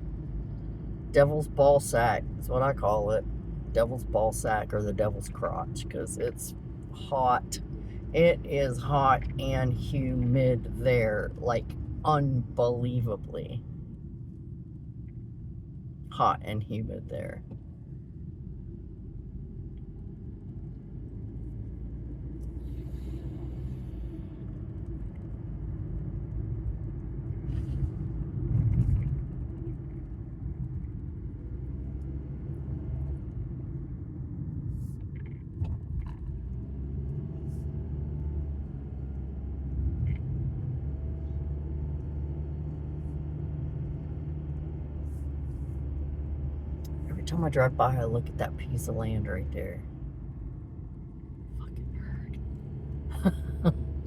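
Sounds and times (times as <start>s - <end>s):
car cabin rumble while driving: 0.0s - 54.0s.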